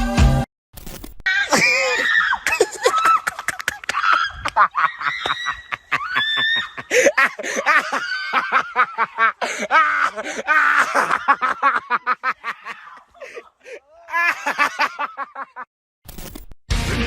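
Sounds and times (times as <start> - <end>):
people laughing: 1.3 - 15.7.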